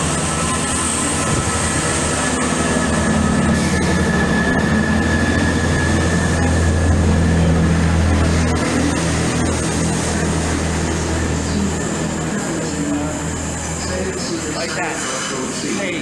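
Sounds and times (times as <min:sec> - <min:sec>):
train low drone: 0:00.0 - 0:16.0.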